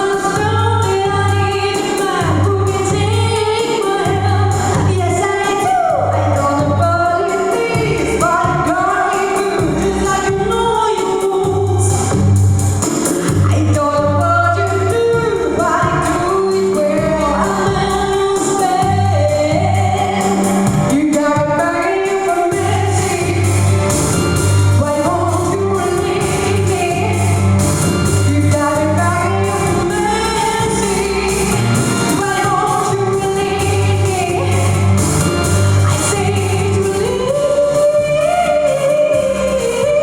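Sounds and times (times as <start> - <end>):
full band backing: 0.0 - 40.0
woman singing pop song: 0.0 - 40.0.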